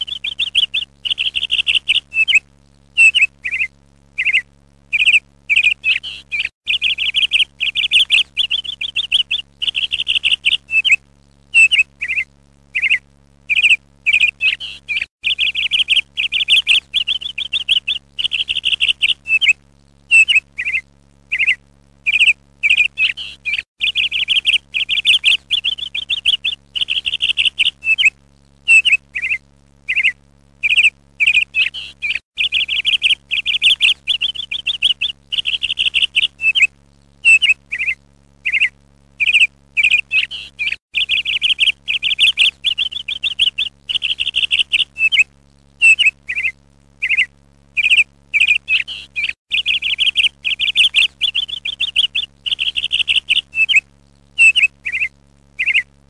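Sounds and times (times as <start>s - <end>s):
songbird chirping and trilling: 0.0s - 2.4s, 3.0s - 55.9s
faint low hum: 0.0s - 56.0s.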